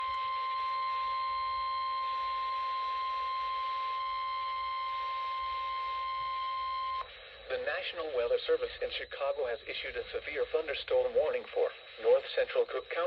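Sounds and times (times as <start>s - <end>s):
steady high alarm beep: 0.0s - 13.0s.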